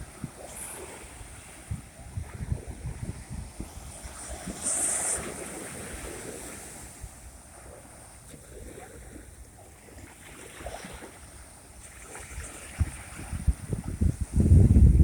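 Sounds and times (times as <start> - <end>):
wind buffeting microphone: 0.0 - 7.8, 10.6 - 15.0
sea waves washing ashore: 0.0 - 15.0.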